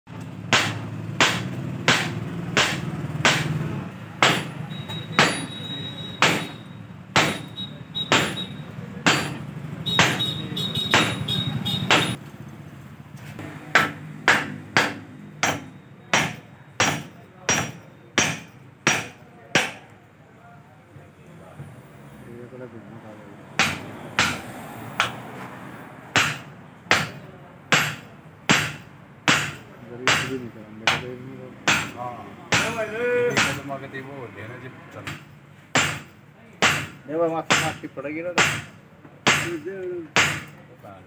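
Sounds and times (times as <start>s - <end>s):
hammer striking steel: 0.5s - 12.2s, 13.4s - 19.9s, 23.6s - 25.2s, 26.1s - 33.7s, 35.0s - 40.6s.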